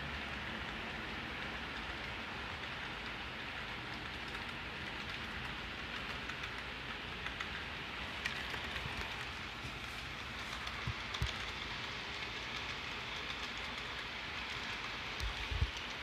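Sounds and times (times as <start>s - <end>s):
model train rolling hiss: 0.0s - 16.0s.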